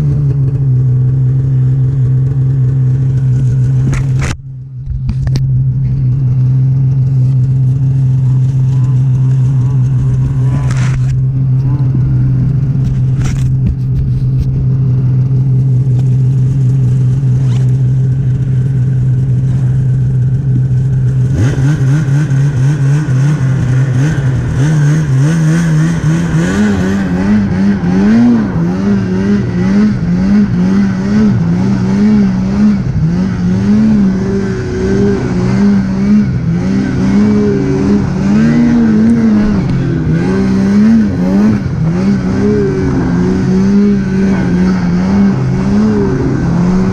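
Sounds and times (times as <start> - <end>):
snowmobile engine revving: 0.0 - 4.3, 5.6 - 46.9.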